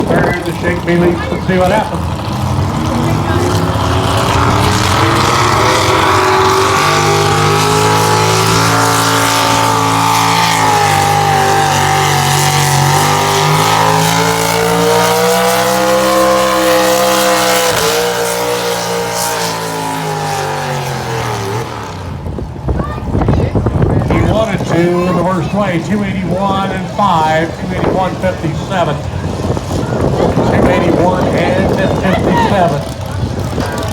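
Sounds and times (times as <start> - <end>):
truck engine at high revs: 0.0 - 33.9.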